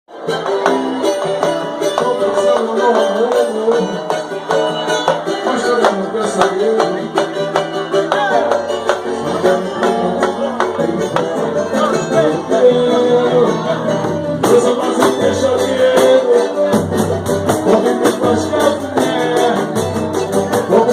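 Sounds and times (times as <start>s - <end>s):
hand percussion: 0.1s - 20.9s
plucked strings: 0.1s - 20.9s
samba band playing: 0.1s - 20.9s.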